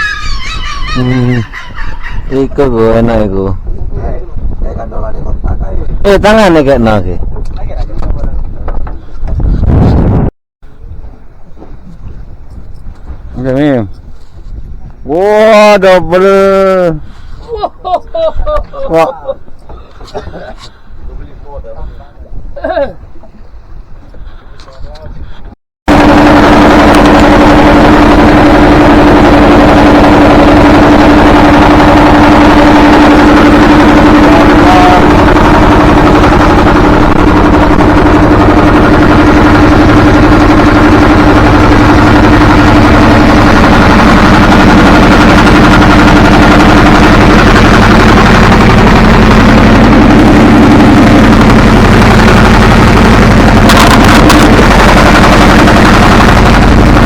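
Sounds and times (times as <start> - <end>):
loud boat engine running: 0.0 - 1.6, 2.3 - 14.2, 15.0 - 17.4, 25.9 - 57.0.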